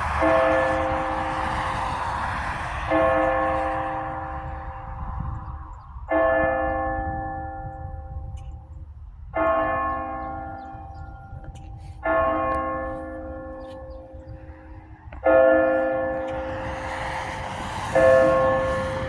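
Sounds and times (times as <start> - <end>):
church bell striking: 0.0 - 1.5, 2.9 - 5.4, 6.0 - 16.9, 18.0 - 19.0.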